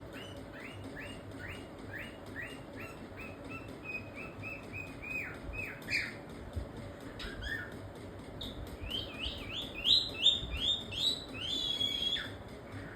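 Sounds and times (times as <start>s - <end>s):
cockatiel chirping: 0.1s - 6.2s, 7.2s - 7.7s, 8.4s - 12.4s.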